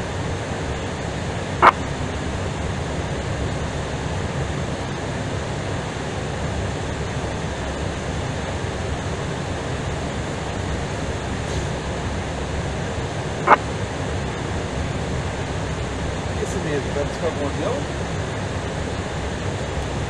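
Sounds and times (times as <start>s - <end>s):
aircraft cabin rumbling: 0.0s - 20.0s.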